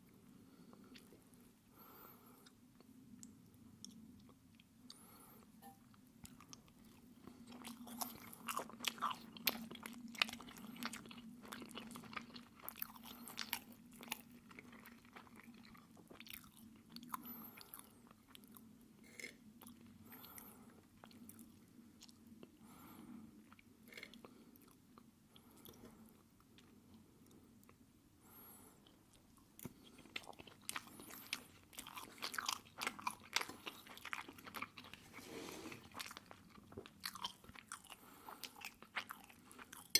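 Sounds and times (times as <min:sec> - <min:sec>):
close chewing with clicks and smacks: 0:00.0 - 0:01.4, 0:02.4 - 0:27.8, 0:28.8 - 0:39.9.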